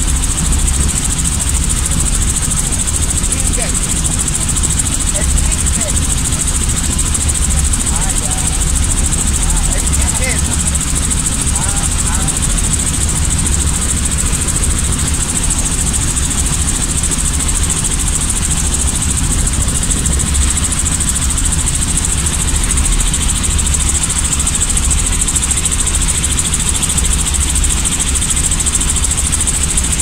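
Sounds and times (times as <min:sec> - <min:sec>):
helicopter engine drone: 0:00.0 - 0:30.0.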